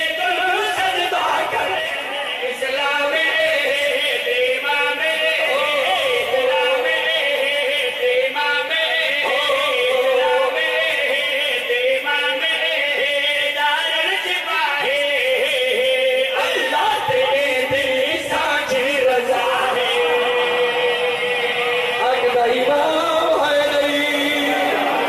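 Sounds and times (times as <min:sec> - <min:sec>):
men chanting: 0:00.0 - 0:25.0.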